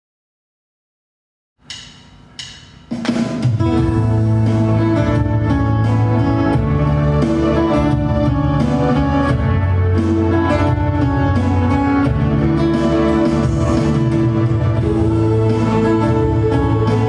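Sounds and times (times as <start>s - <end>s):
pop band playing: 3.1s - 17.0s.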